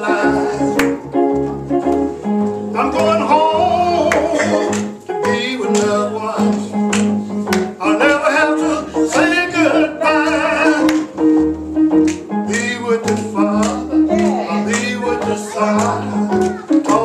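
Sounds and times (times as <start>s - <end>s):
gospel singing: 0.0s - 1.8s, 2.6s - 17.0s
instrumental accompaniment chords: 0.0s - 17.0s.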